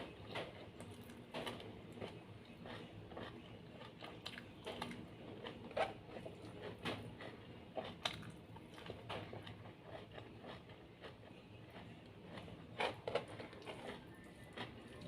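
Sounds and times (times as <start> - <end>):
person chewing with mouth smacks: 0.2 - 15.0.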